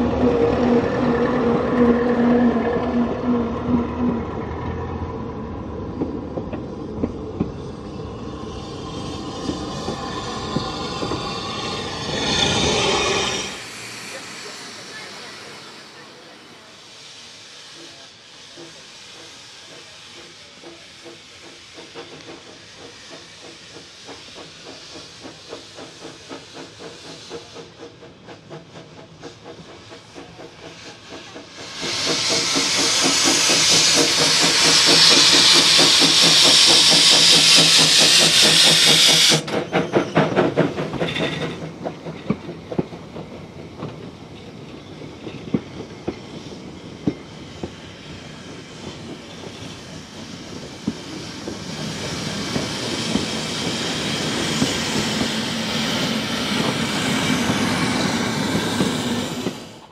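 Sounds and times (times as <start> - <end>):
rapid locomotive beats: 0.0 - 59.9
rush of escaping steam: 0.0 - 59.9
steam locomotive hissing: 0.0 - 59.9.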